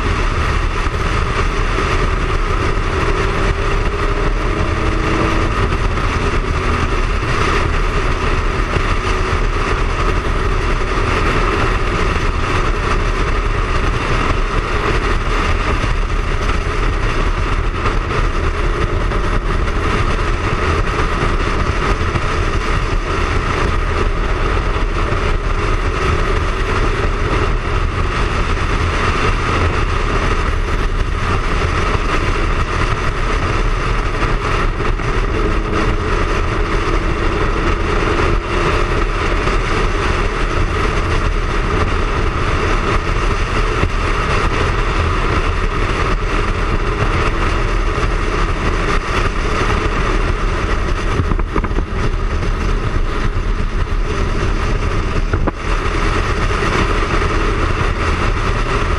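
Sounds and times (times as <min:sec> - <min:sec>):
motorcycle engine cruising: 0:00.0 - 0:58.9
road noise: 0:00.0 - 0:58.9
rushing wind: 0:00.0 - 0:58.9.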